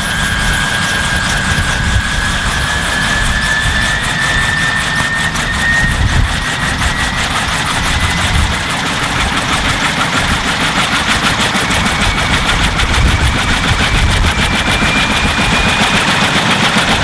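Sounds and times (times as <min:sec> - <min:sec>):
helicopter blade chop: 0:00.0 - 0:17.0
helicopter turbine whine: 0:00.0 - 0:17.0.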